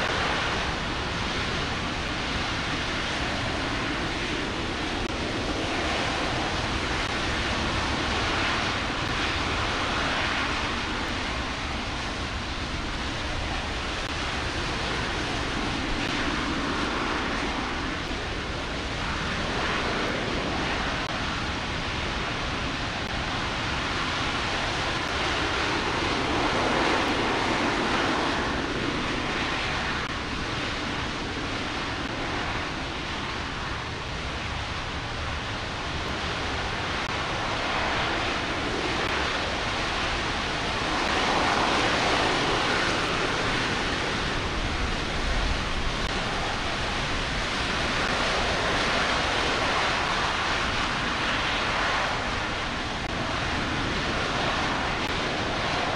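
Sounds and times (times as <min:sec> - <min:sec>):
rocket engine roaring: 0:00.0 - 0:55.9.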